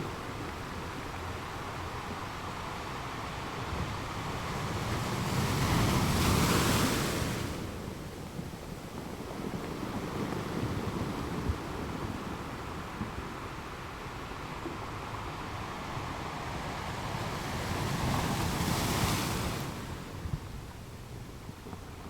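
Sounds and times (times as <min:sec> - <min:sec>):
wash of surf: 0:00.0 - 0:20.4.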